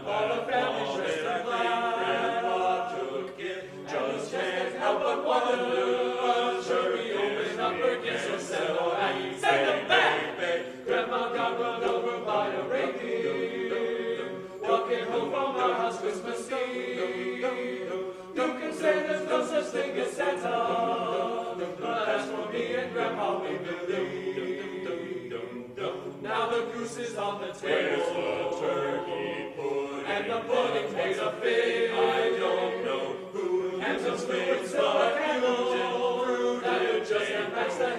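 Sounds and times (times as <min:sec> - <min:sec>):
male a cappella chorus singing: 0:00.0 - 0:37.9.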